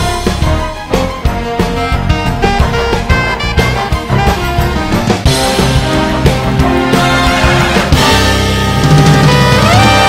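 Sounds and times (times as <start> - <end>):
background music with drums: 0.0 - 10.0.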